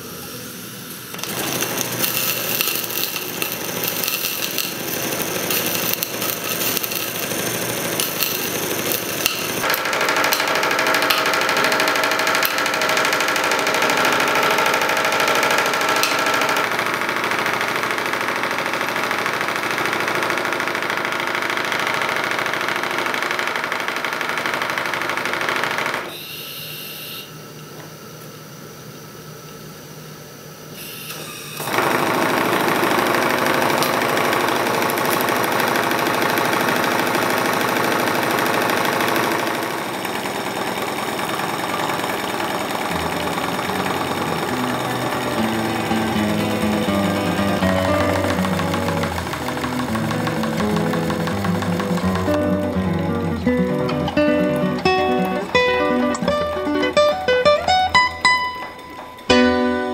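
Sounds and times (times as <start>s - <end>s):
model steam engine running fast: 0.0s - 26.1s, 31.3s - 55.4s.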